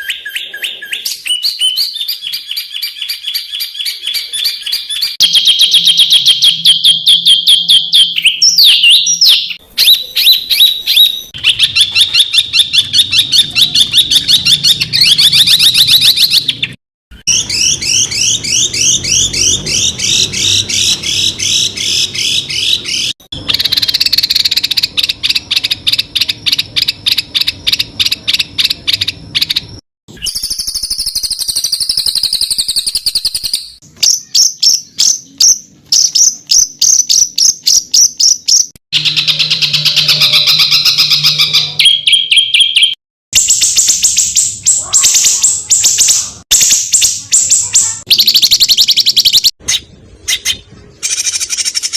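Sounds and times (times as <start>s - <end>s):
songbird chirps and trills: 0.0s - 51.9s.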